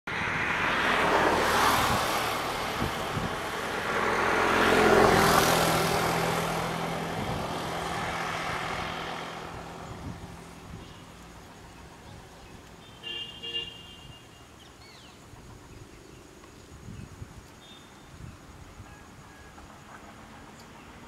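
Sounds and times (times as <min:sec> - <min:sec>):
motor vehicles passing: 0:00.1 - 0:21.0.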